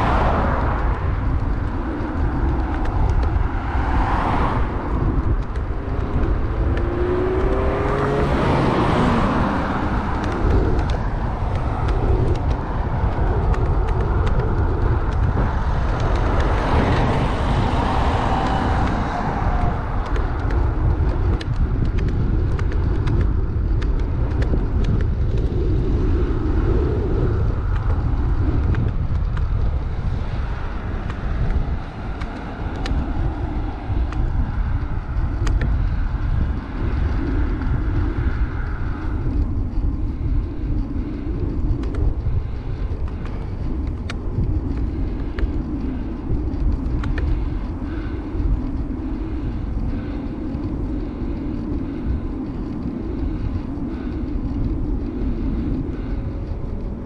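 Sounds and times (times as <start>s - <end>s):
road traffic noise: 0.0s - 57.0s
wind rumbling on microphone: 0.0s - 57.0s.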